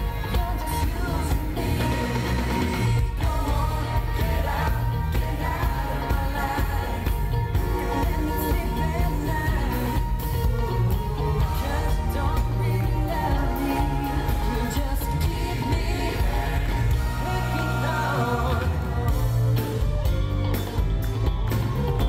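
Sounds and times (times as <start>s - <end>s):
male vocal group singing: 0.0s - 19.5s
live pop band with strong bass: 0.0s - 22.0s.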